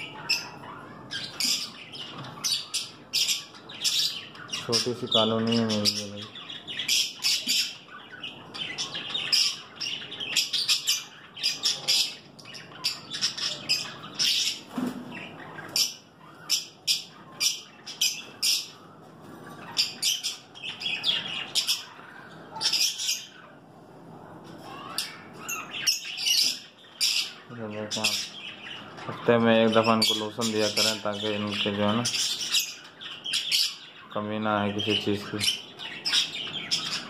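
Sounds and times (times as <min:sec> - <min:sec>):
birds chirping and squawking: 0:00.0 - 0:37.0.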